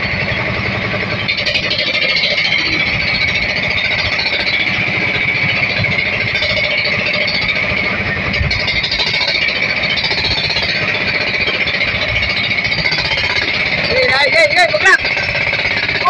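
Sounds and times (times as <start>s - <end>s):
small engine running roughly: 0.0s - 16.0s.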